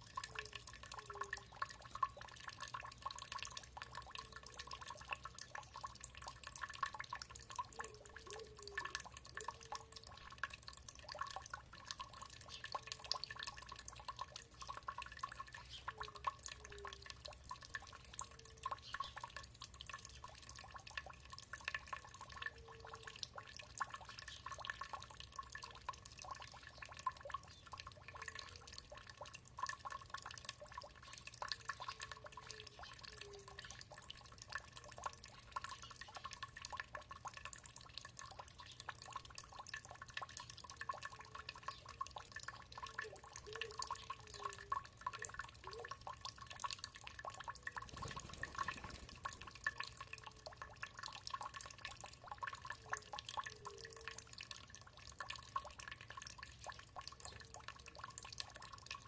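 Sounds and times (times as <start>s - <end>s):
water dripping and trickling: 0.0s - 59.0s.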